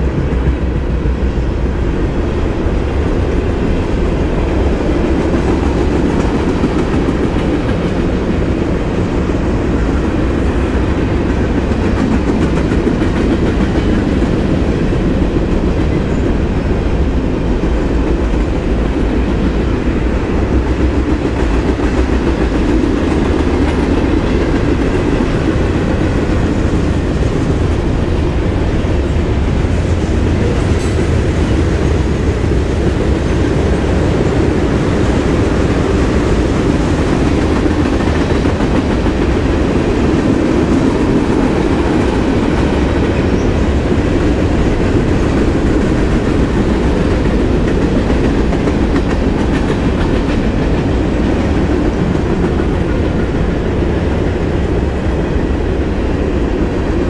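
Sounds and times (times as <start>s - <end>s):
train wheels rumbling on rails: 0.0s - 57.0s
wheels clickety-clack over joints: 2.0s - 54.2s.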